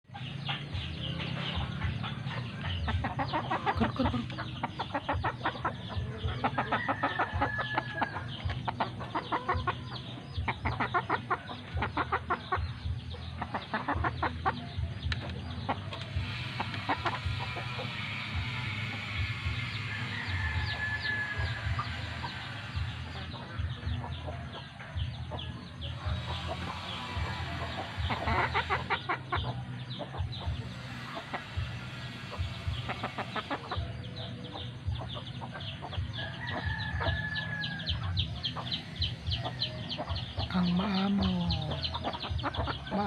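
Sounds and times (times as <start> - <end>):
chickens clucking: 0.0 - 43.0
steady low hum: 0.0 - 43.0.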